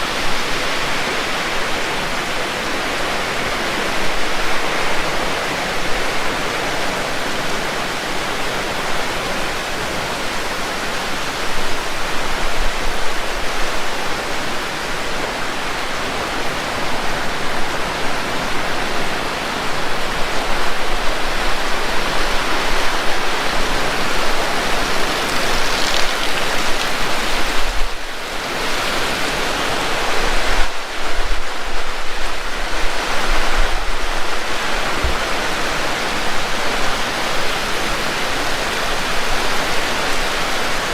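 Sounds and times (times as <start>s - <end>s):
heavy rain pouring: 0.0s - 40.9s
wind gusts on microphone: 0.0s - 40.9s.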